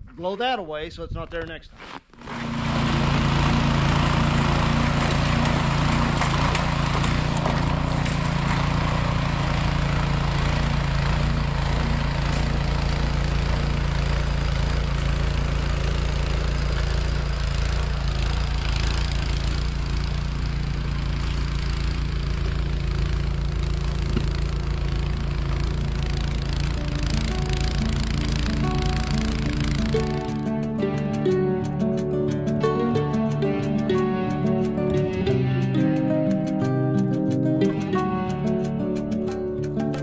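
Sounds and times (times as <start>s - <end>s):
snowblower engine running: 2.2s - 40.0s.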